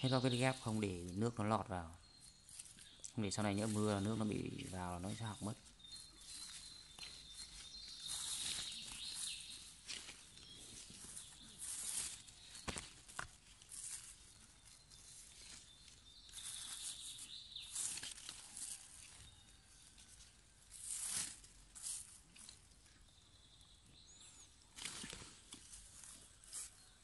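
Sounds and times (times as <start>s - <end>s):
plastic film rustling and crinkling: 0.0s - 23.0s, 24.1s - 27.0s.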